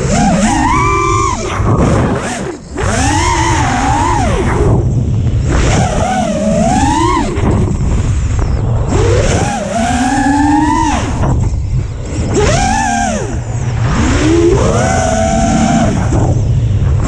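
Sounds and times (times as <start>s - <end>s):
drone motors whining: 0.0s - 17.0s
steady low rumble: 0.0s - 17.0s.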